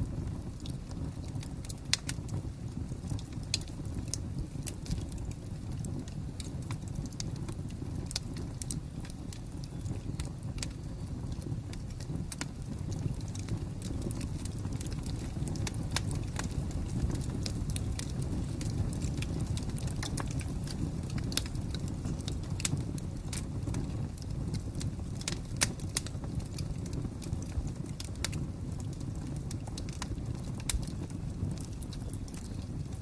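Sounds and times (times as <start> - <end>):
low rumble of flames: 0.0 - 33.0
wood fire crackling: 0.0 - 33.0.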